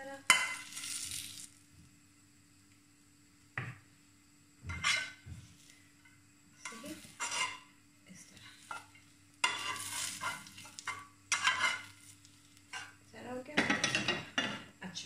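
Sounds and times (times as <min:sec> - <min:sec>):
hot oil sizzling: 0:00.0 - 0:14.9
faint steady hum: 0:00.0 - 0:15.0.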